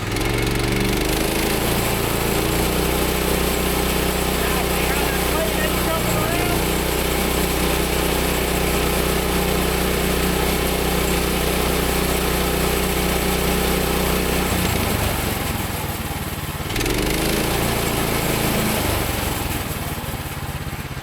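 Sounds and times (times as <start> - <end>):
small gasoline engine running: 0.0 - 21.0.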